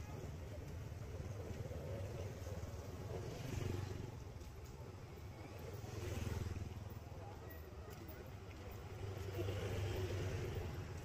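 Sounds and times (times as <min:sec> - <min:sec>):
passing motorbikes and cars: 0:00.0 - 0:11.0.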